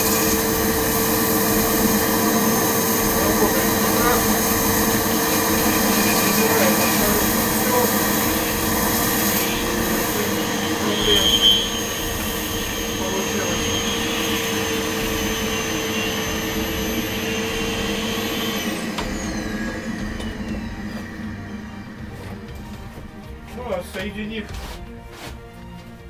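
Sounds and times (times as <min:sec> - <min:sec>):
vacuum cleaner motor running: 0:00.0 - 0:26.0.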